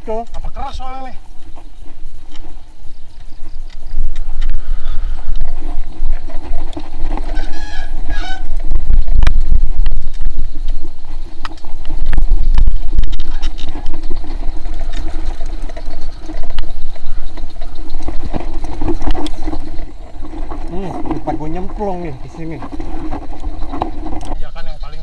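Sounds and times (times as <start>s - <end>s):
mountain bike rattling: 0.0s - 25.0s
wind buffeting microphone: 0.0s - 25.0s
bike knocking on bumps: 1.4s - 24.5s.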